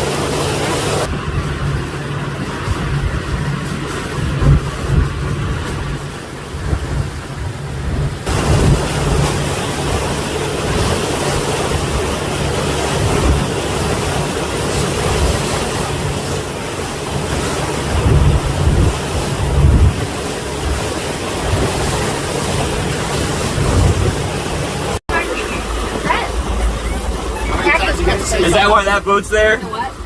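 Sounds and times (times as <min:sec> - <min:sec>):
wind buffeting microphone: 0:00.0 - 0:28.8
waves washing ashore: 0:00.0 - 0:30.0.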